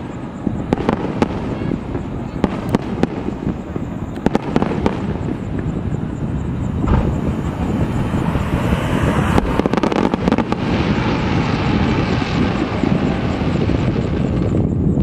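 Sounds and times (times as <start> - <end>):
fireworks booming: 0.0 - 15.0
fireworks cracking: 0.0 - 15.0.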